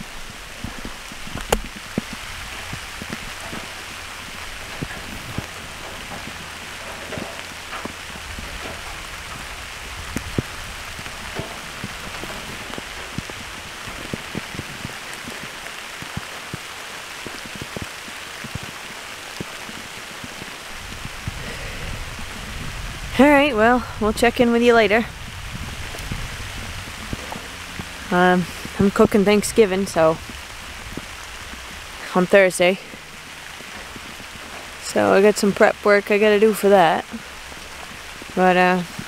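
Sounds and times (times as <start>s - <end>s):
raindrops ticking close by: 0.0s - 39.0s
steady rain hiss: 0.0s - 39.0s.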